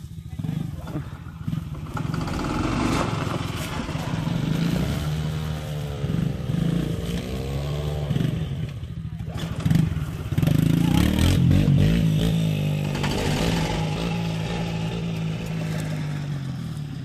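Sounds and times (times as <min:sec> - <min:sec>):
small motorbike engine revving: 0:00.4 - 0:17.0.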